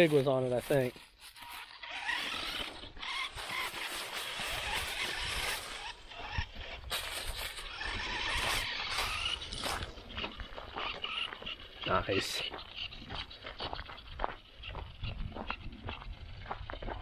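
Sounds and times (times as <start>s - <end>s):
tyres through leaves and grass: 0.0s - 14.8s
toy truck motor whining: 0.0s - 16.9s.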